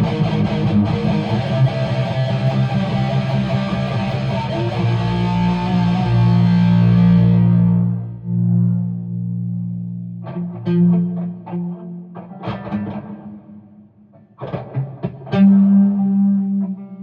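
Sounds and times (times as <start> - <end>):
guitar chords strummed: 0.0 - 13.7.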